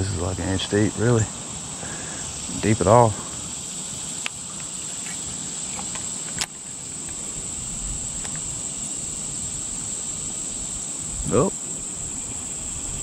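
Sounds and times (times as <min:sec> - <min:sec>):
insect chorus chirring: 0:00.0 - 0:13.0
low outdoor hiss: 0:00.0 - 0:13.0.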